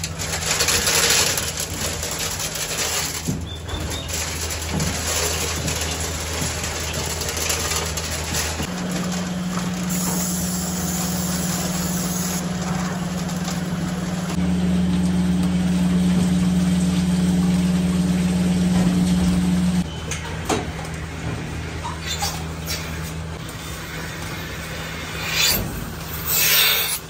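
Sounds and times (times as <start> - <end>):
milking machinery humming: 0.0 - 27.0.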